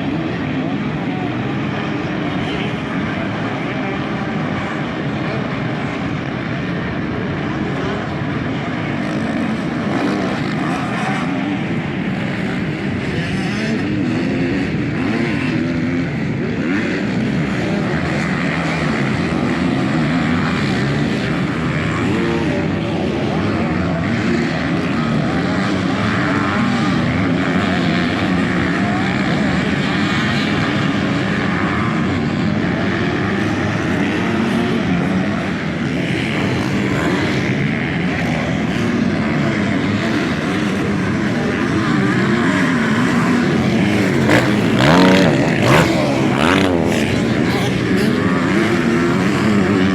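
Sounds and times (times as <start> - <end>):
motocross bike engines revving: 0.0 - 49.9.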